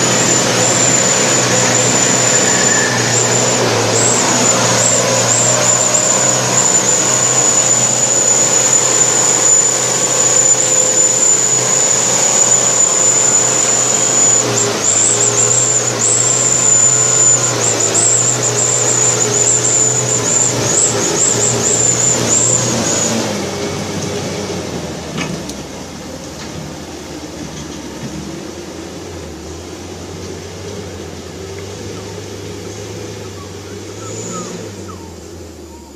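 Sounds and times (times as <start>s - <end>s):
high steady whine: 0.0s - 35.9s
truck engine under load: 0.0s - 35.9s.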